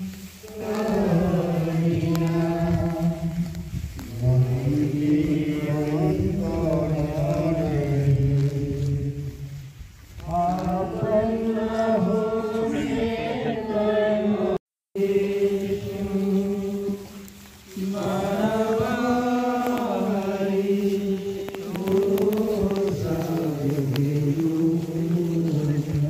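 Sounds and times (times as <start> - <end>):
crowd singing a hymn: 0.0 - 26.0.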